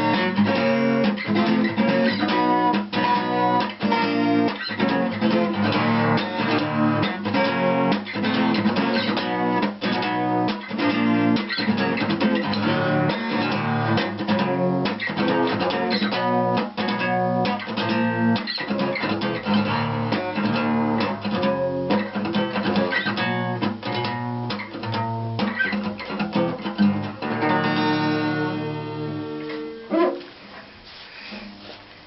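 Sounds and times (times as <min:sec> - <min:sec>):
acoustic guitar strumming: 0:00.0 - 0:30.4.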